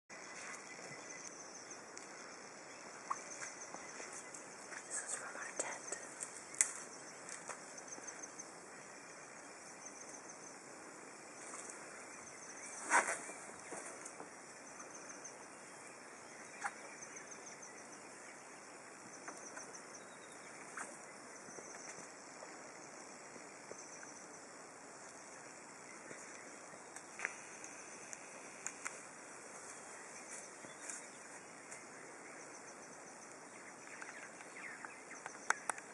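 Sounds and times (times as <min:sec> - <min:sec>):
insects chirping in trills: 0:00.1 - 0:35.9
steady background hiss: 0:00.1 - 0:35.9.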